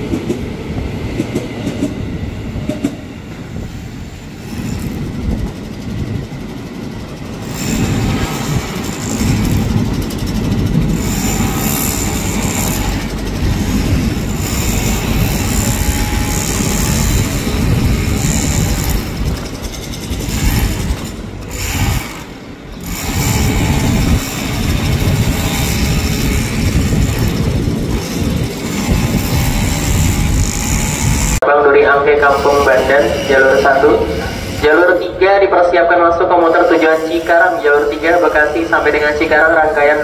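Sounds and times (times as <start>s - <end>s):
train rumbling: 0.0s - 40.0s.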